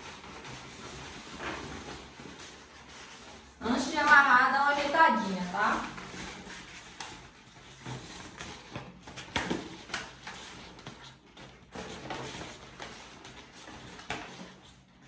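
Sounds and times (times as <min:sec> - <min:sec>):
balloons rubbing together: 0:00.0 - 0:15.0.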